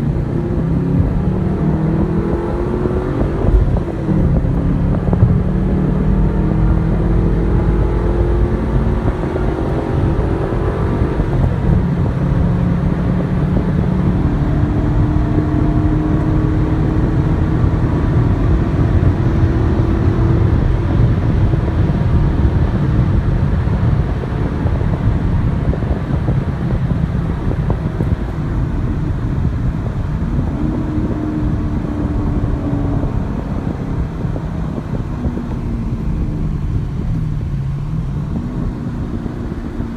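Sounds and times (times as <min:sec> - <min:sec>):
car engine accelerating: 0:00.0 - 0:39.9
road rumble: 0:00.0 - 0:39.9.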